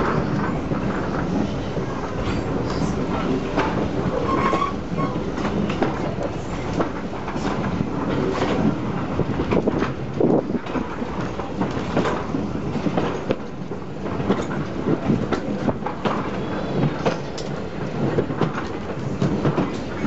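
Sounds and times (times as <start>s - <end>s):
train rumbling along track: 0.0s - 20.0s
wheels clattering on rails: 0.0s - 20.0s.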